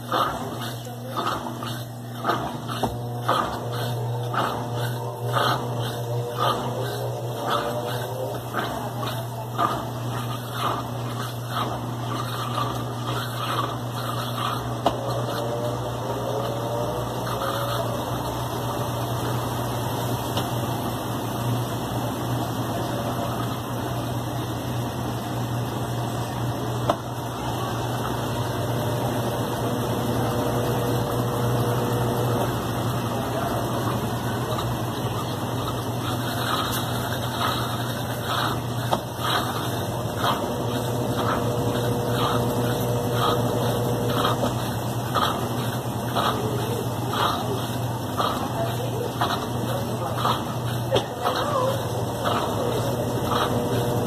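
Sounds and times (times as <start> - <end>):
washing machine spin cycle: 0.0 - 54.0.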